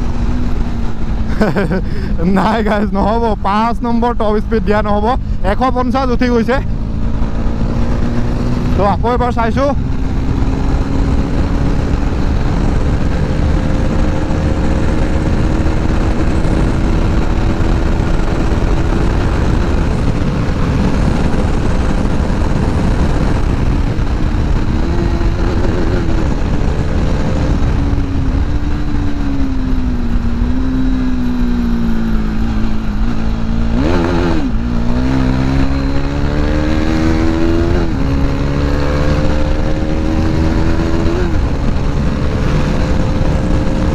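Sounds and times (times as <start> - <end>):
motorcycle engine revving: 0.0 - 43.9
wind rush over microphone: 0.0 - 43.9.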